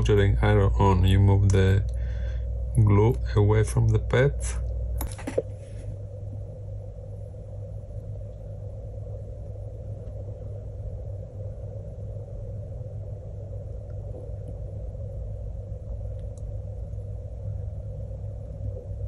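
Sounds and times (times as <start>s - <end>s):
faint higher noise: 0.0s - 19.0s
steady low hum: 0.0s - 19.0s.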